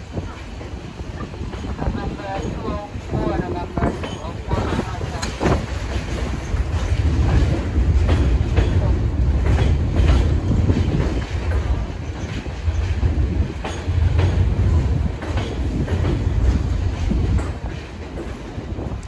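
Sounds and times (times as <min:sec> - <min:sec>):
subway train rumbling: 0:00.0 - 0:19.0
wheels clicking over rail joints: 0:00.0 - 0:19.0.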